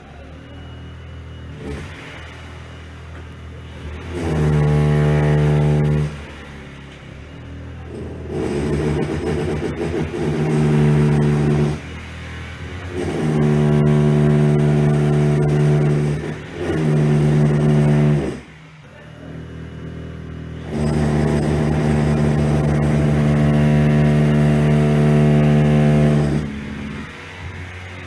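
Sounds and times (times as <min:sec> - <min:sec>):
power tool motor running: 0:01.4 - 0:28.0.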